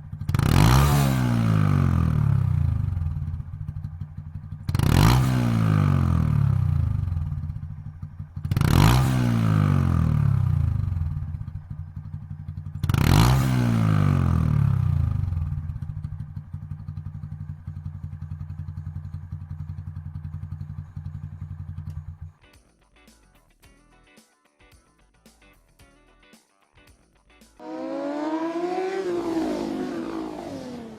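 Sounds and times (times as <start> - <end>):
motorcycle engine idling and blipped: 0.0 - 22.6, 27.6 - 30.9.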